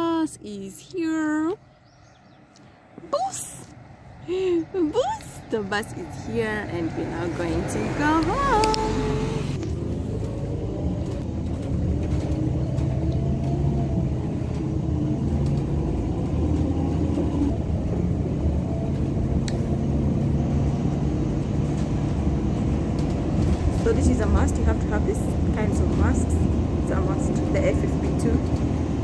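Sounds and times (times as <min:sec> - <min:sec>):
bus engine and road drone: 0:00.0 - 0:29.0.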